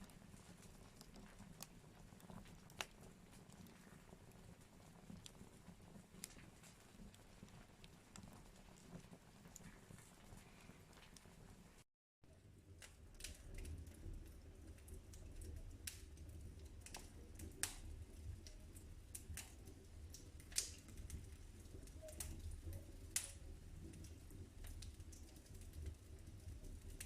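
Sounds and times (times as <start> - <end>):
low rumble of burning fire: 0.0 - 27.0
wood fire crackling: 0.0 - 27.0.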